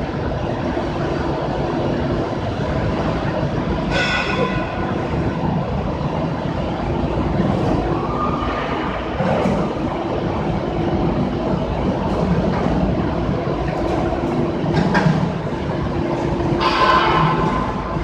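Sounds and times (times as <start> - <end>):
machinery rumble and hum: 0.0 - 18.0.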